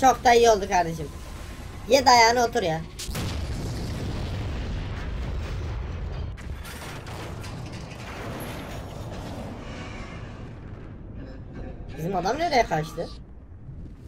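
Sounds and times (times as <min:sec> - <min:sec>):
rumble of crashing and explosions: 0:00.0 - 0:14.0.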